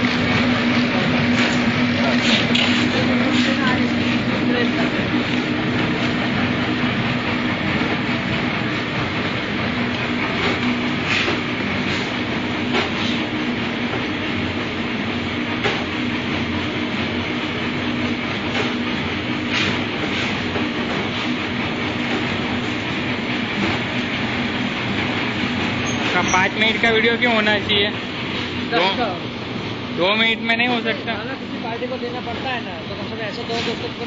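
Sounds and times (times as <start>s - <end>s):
packaging machine running: 0.0s - 34.0s.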